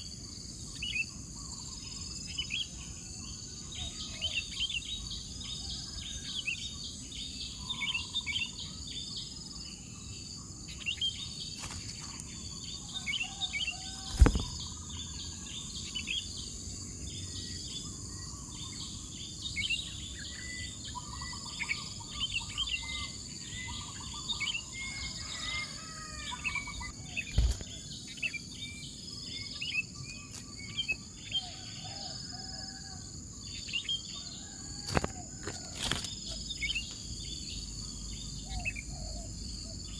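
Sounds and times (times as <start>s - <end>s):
bird chirps: 0.0s - 39.9s
high insect drone: 0.0s - 39.9s.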